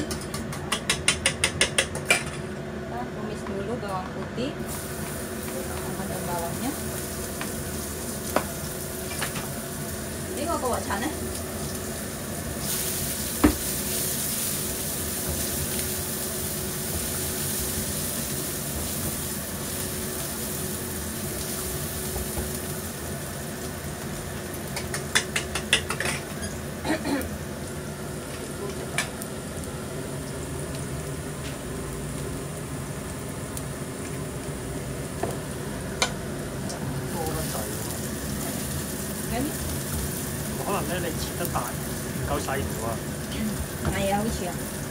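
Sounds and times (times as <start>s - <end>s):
garlic and onion sizzling in oil: 4.6s - 44.9s.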